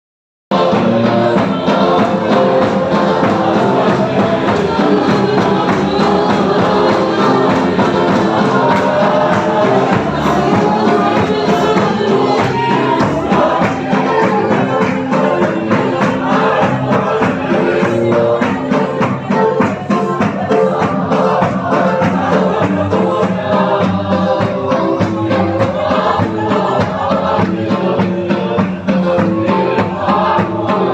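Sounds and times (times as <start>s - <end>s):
group singing a hymn: 0.5s - 30.9s.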